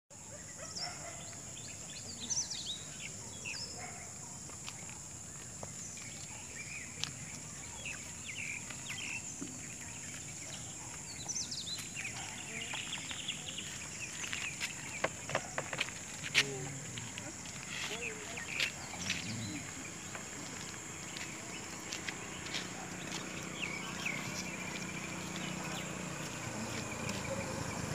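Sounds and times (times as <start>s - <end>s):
birds chirping: 0.1s - 27.9s.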